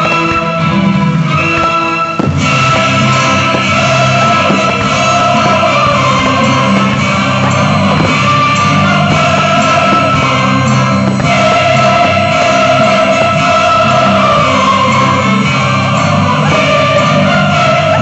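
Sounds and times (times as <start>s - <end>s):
loud continuous music: 0.0s - 18.0s.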